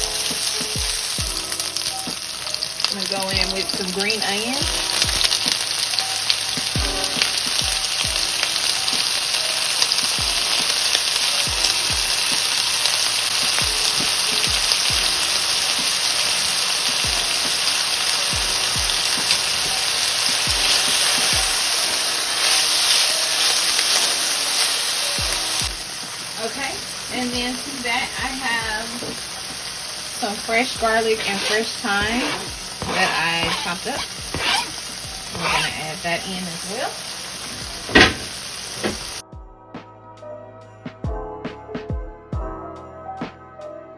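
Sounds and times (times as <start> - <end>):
vegetables sizzling in oil: 0.0 - 39.2.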